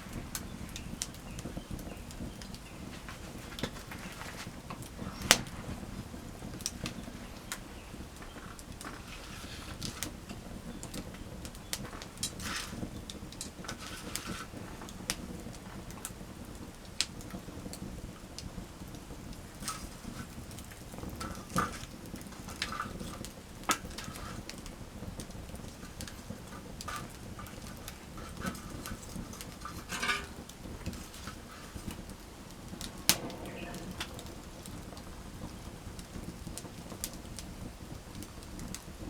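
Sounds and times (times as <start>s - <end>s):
wood campfire crackling: 0.0s - 39.0s.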